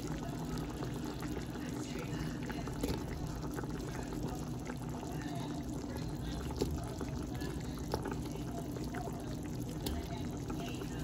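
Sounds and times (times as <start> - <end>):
broth simmering in a pot: 0.0 - 11.0.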